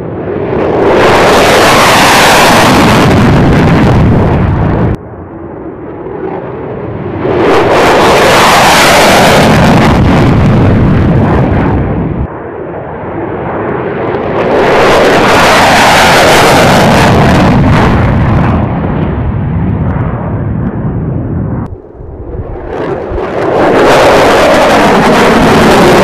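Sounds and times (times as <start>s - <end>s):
fighter jet afterburner roar: 0.0s - 26.0s.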